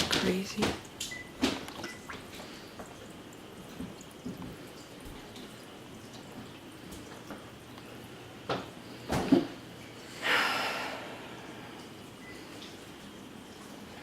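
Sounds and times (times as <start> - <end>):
water dripping and trickling: 0.0 - 10.2, 11.1 - 14.0.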